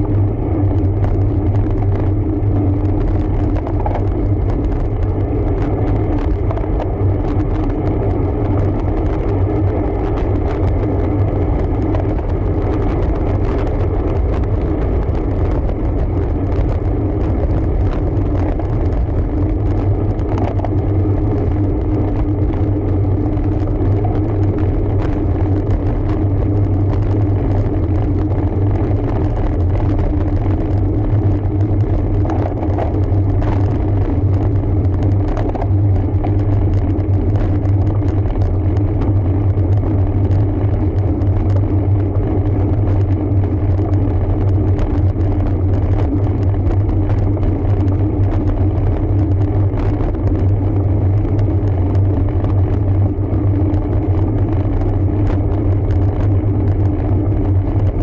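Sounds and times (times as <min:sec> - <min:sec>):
bike tyres rolling: 0:00.0 - 0:58.0.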